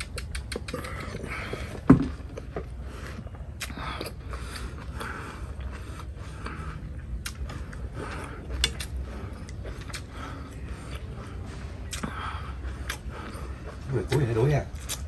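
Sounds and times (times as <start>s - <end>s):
breathy puffs: 0.0s - 14.0s
chewing: 0.0s - 15.0s.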